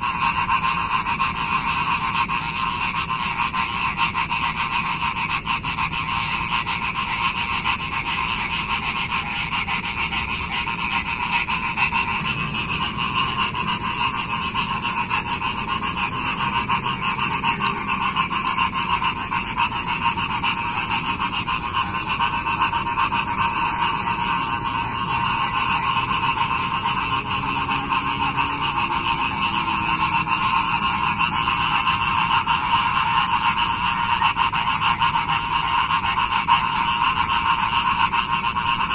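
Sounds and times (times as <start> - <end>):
chorus of frogs calling: 0.0 - 38.9.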